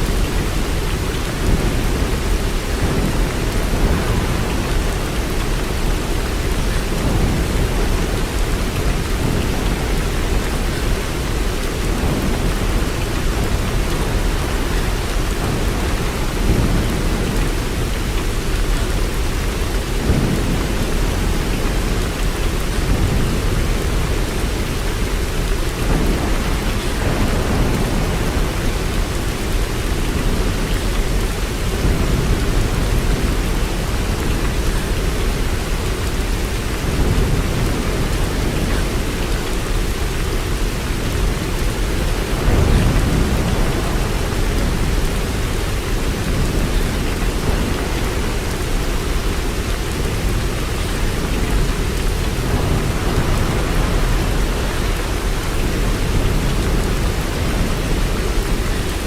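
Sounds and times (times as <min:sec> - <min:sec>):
low thunder rumbles: 0:00.0 - 0:59.0
steady rain falling: 0:00.0 - 0:59.0.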